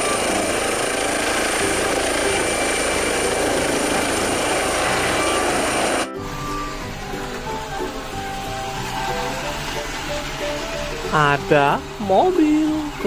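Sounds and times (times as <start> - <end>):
helicopter rotor noise: 0.0 - 13.0
high turbine whine: 0.0 - 13.0.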